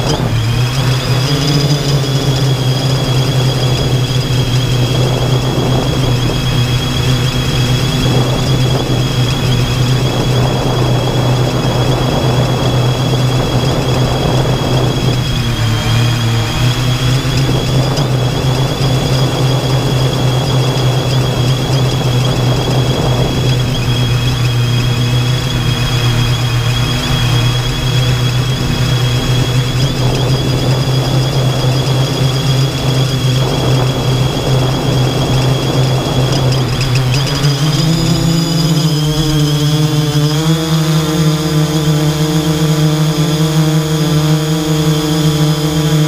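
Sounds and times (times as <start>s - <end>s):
drone motors humming and whining: 0.0s - 46.0s.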